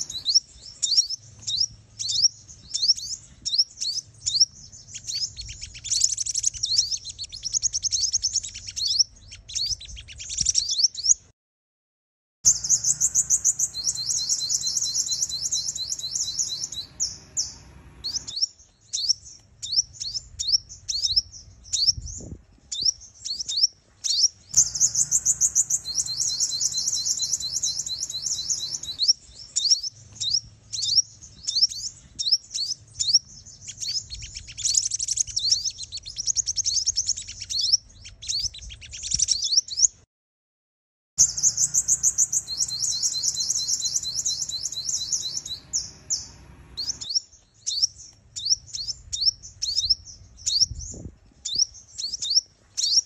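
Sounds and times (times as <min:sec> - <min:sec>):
high-pitched bird chirps and trills: 0:00.0 - 0:11.2, 0:12.5 - 0:40.0, 0:41.2 - 0:53.0.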